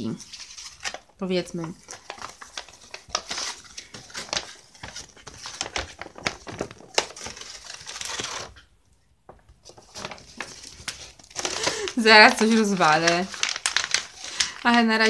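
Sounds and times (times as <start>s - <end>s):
paper rustling and crinkling: 0.0s - 8.7s, 9.5s - 15.0s.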